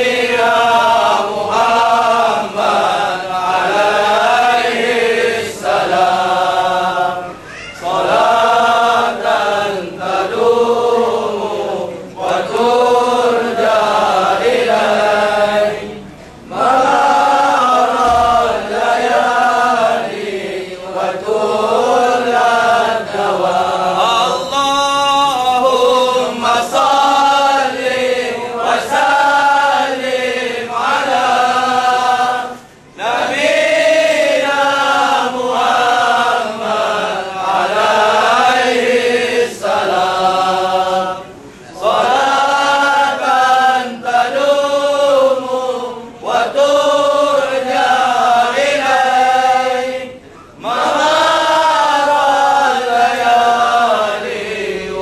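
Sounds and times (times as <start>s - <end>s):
men chanting: 0.0s - 55.0s.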